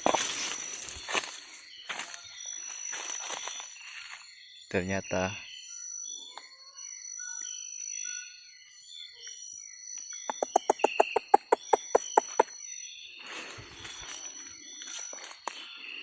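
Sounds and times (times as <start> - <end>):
insects buzzing and chirping: 0.0 - 16.0.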